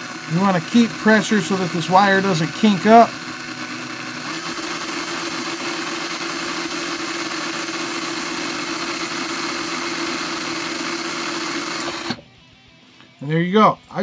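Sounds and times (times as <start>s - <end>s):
electric drill running: 0.0s - 12.3s.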